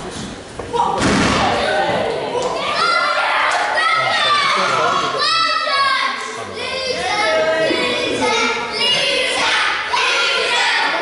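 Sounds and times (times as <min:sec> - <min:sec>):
crowd chanting and shouting: 0:01.2 - 0:11.0.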